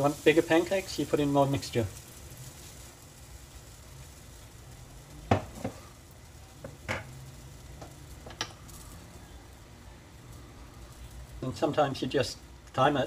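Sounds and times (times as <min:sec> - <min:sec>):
batter sizzling in a frying pan: 0:00.0 - 0:13.0.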